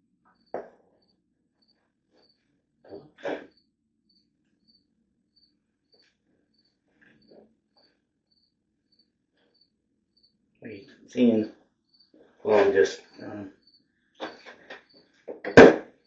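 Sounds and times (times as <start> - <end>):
cricket chirping: 0.3 - 16.0.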